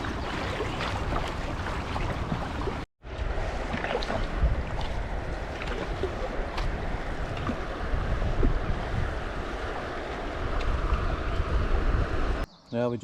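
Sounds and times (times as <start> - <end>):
water washing around canoe: 0.0 - 12.4
wind rumbling on microphone: 0.0 - 12.4.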